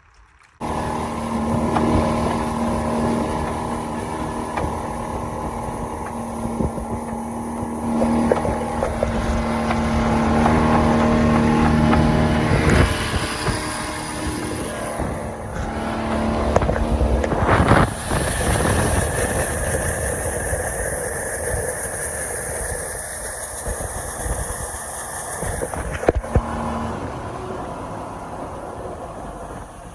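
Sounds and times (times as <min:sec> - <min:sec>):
engine running: 0:00.2 - 0:29.9.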